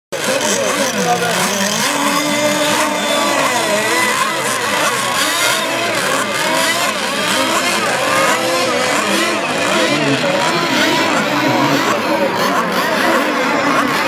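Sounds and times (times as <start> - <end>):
model racing boat engines whining: 0.1 - 14.0.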